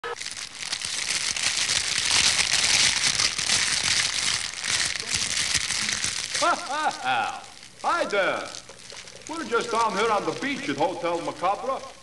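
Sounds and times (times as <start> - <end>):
campfire crackling and hissing: 0.1 - 12.0.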